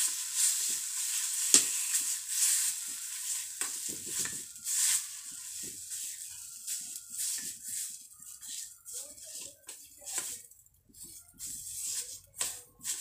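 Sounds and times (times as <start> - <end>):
potato sizzling in hot oil: 0.0 - 10.7
spoon scraping against pan: 0.0 - 13.0.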